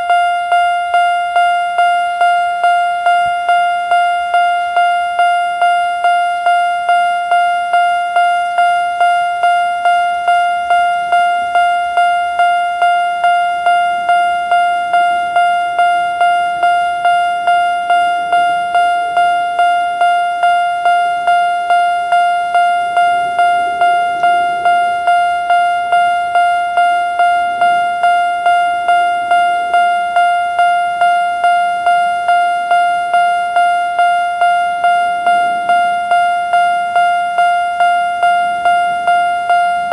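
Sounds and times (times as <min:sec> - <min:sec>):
level-crossing warning bell: 0:00.0 - 0:39.9.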